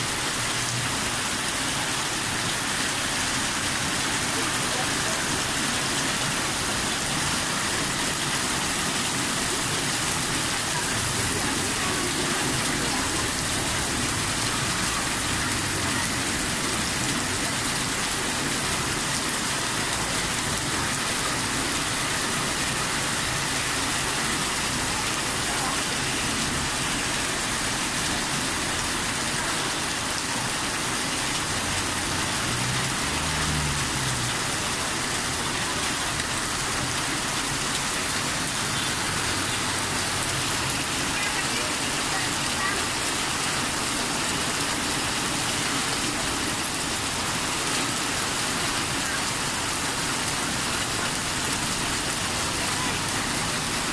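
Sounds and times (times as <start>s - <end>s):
hail and rain pouring: 0.0s - 53.9s.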